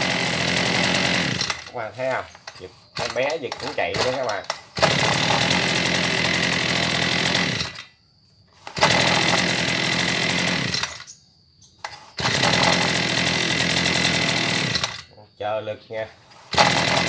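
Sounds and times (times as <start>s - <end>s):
brush cutter engine buzzing: 0.0s - 7.9s, 8.6s - 11.2s, 11.8s - 15.1s, 16.2s - 17.0s
recoil starter pull: 0.0s - 7.9s, 8.6s - 11.2s, 11.8s - 15.1s, 16.2s - 17.0s.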